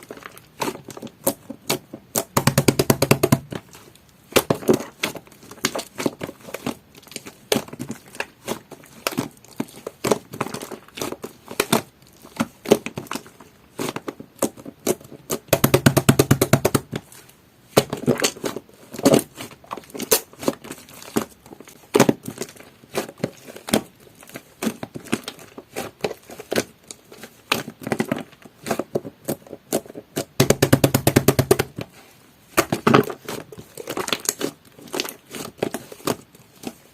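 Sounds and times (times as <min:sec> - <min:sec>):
slime squishing: 0:00.0 - 0:36.9.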